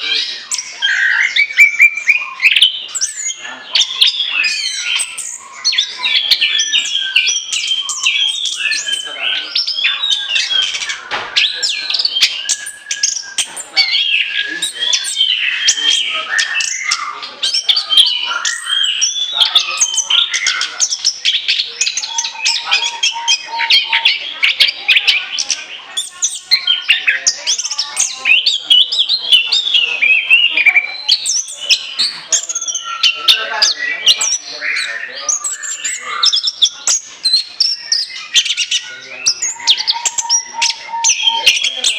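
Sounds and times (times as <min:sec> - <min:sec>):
bird singing whistles and trills: 0:00.0 - 0:41.9.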